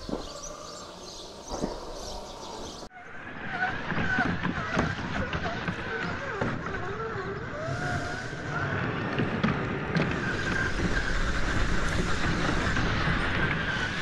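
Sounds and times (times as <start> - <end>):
tyres churning dry dirt: 0.0 - 2.9, 3.6 - 14.0.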